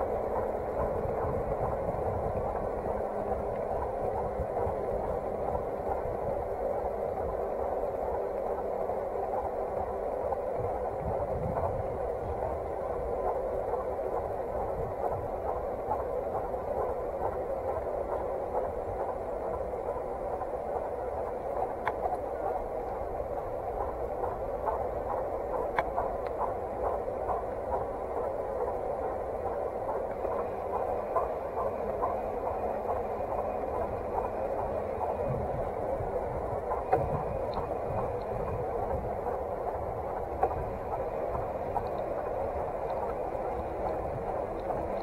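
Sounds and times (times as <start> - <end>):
wind on microphone: 0.0 - 7.5, 10.5 - 20.4, 21.6 - 45.0
bicycle tyres rolling on asphalt: 0.0 - 45.0
faint irregular ticks: 0.0 - 45.0.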